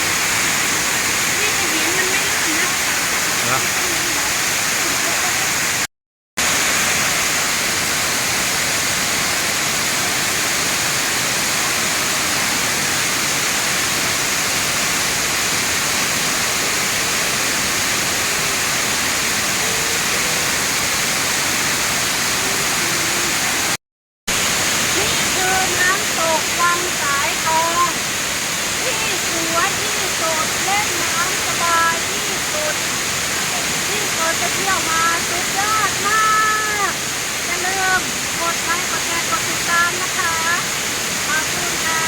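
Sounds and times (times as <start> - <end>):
waterfall rushing over rock: 0.0 - 42.0.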